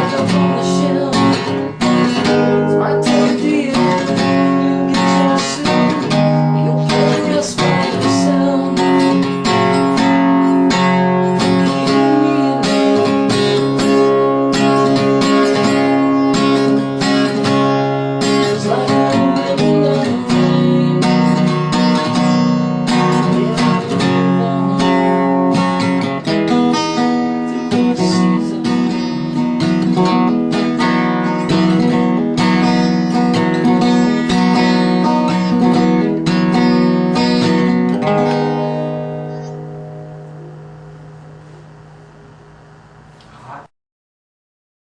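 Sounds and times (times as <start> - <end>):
acoustic guitar strumming chords: 0.0 - 43.2.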